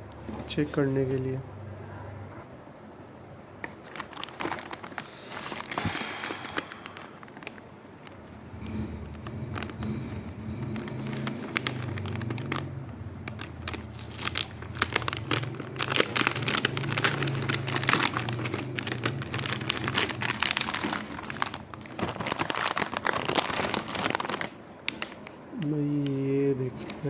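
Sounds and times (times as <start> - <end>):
low steady hum: 0.0 - 27.0
plastic packaging crinkling: 3.6 - 27.0.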